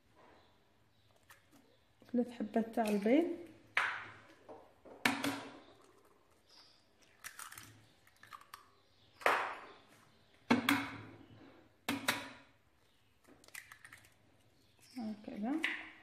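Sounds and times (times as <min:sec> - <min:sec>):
eggshell crackling: 0:01.0 - 0:10.4, 0:12.0 - 0:16.0
eggs cracking against plastic bowl: 0:01.0 - 0:16.0.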